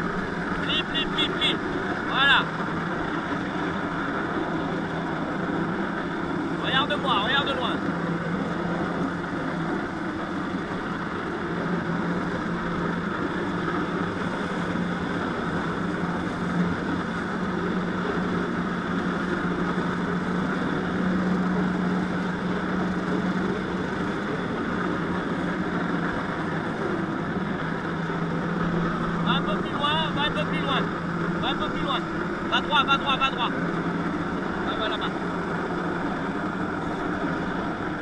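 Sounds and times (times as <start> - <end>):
jet ski engine humming: 0.0 - 38.0.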